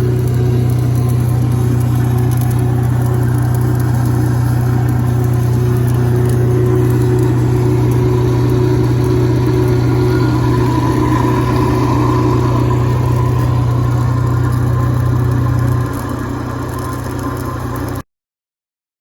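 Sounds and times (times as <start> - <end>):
diesel welder engine running: 0.0 - 18.0.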